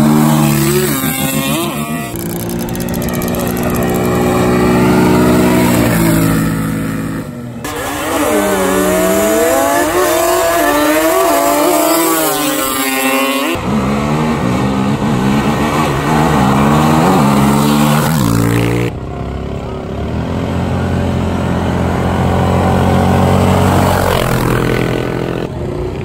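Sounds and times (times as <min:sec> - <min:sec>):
quad engines revving: 0:00.0 - 0:26.0.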